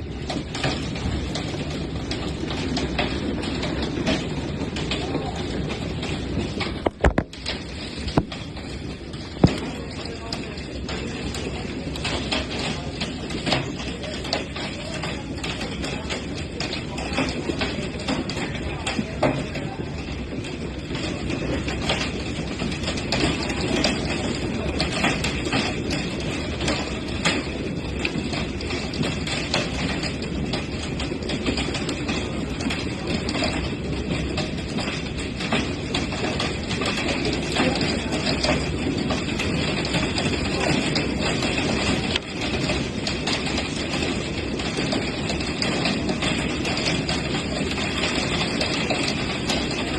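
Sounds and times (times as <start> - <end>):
heavy downpour: 0.0 - 49.9
hailstones striking hard surfaces: 0.2 - 49.9.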